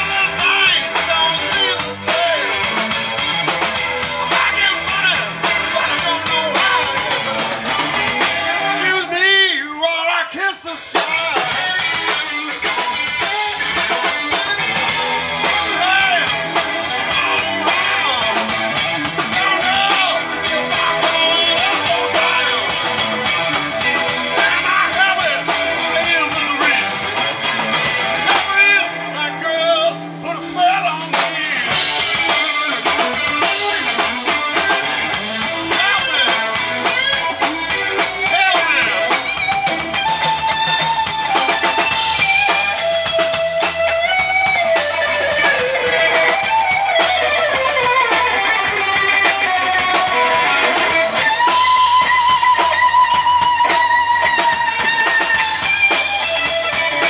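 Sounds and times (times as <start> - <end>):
blues band playing: 0.0 - 57.0
electric guitar lead: 0.0 - 57.0.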